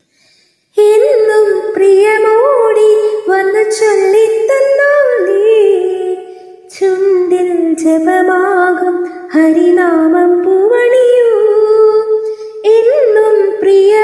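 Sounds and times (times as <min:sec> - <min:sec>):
woman singing slow melody: 0:00.8 - 0:14.0.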